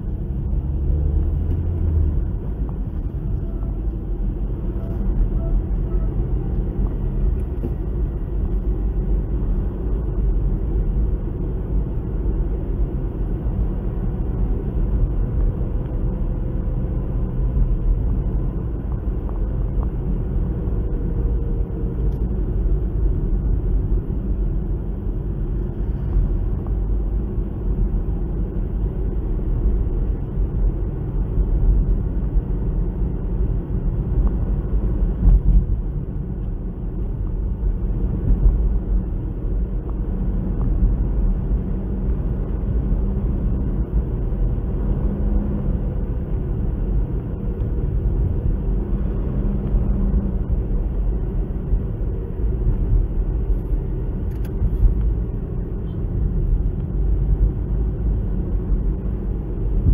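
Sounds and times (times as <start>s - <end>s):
car engine and tyre hum: 0.0s - 59.9s.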